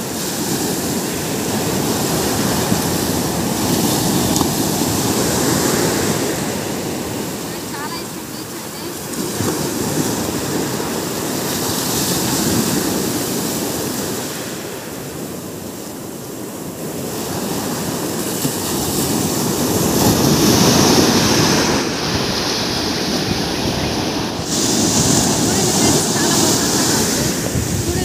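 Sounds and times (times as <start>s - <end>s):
ocean surf breaking: 0.0s - 28.0s.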